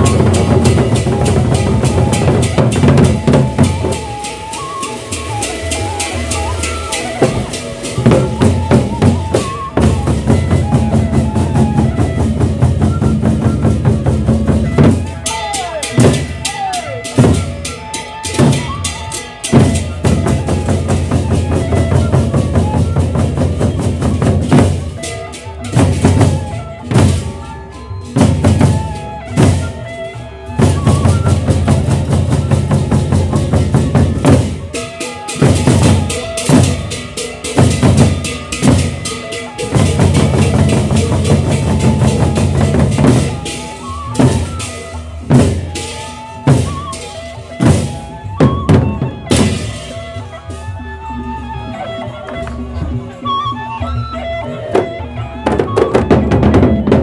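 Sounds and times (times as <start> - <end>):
drums beaten fast: 0.0 - 29.9, 30.5 - 51.6, 54.7 - 57.0
cymbals: 0.0 - 52.0.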